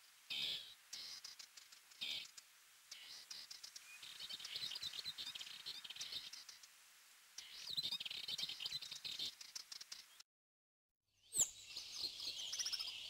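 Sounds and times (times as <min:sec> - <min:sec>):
bird chirping: 0:00.3 - 0:06.7, 0:07.4 - 0:10.2, 0:11.2 - 0:13.0.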